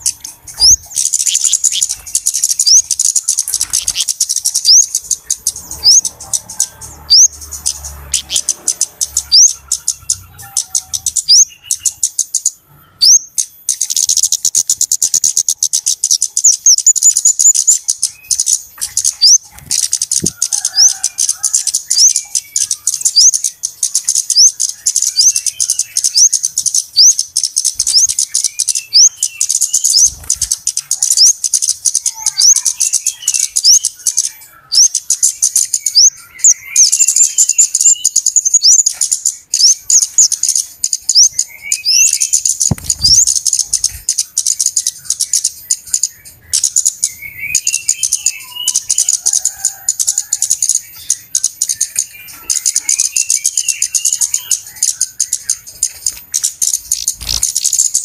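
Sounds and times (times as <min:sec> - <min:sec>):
birds calling in sharp high chips: 0:00.0 - 0:58.0
soft low bird twittering: 0:00.0 - 0:58.0.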